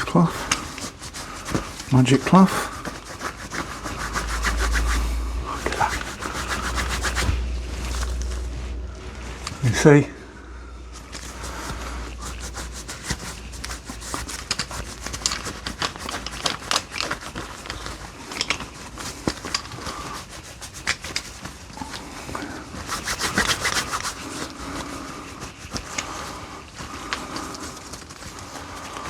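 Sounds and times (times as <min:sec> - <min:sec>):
cloth rubbing on metal: 0:00.0 - 0:10.0, 0:10.8 - 0:29.0.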